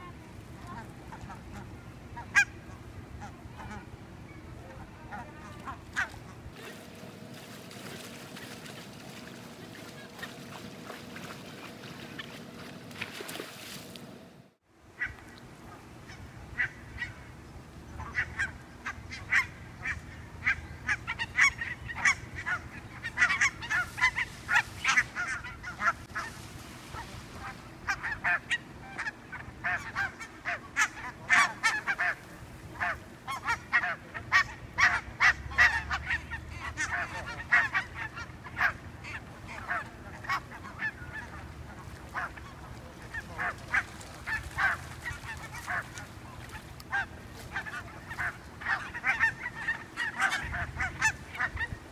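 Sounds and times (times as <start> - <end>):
geese honking: 0.0 - 13.7, 15.0 - 51.9.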